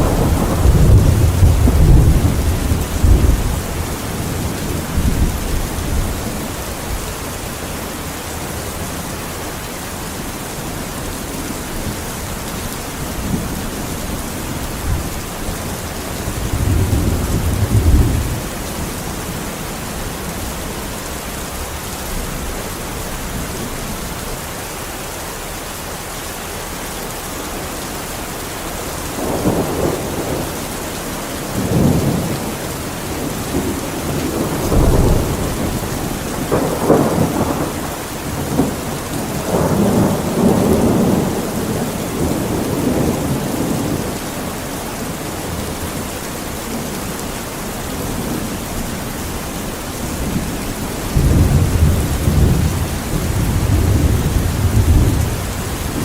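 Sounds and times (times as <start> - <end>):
thunder rumbling: 0.0 - 8.6, 10.7 - 24.4, 29.0 - 46.0, 46.7 - 56.0
heavy rain hissing: 0.0 - 56.0.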